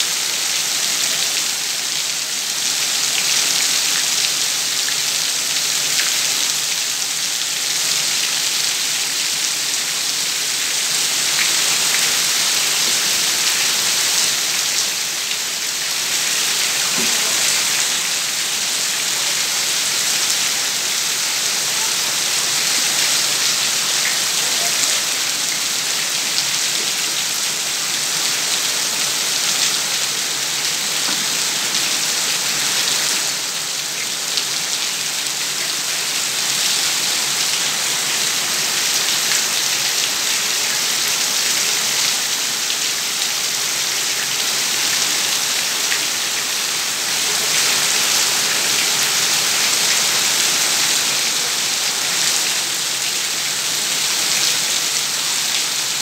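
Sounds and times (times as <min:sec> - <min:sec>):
heavy rain on leaves and pavement: 0:00.0 - 0:56.0.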